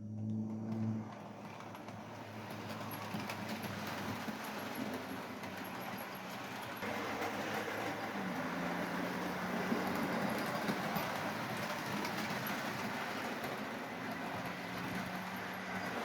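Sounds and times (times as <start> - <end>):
gears and wheels whirring on rails: 0.0 - 16.0
model train motor hum: 0.8 - 16.0.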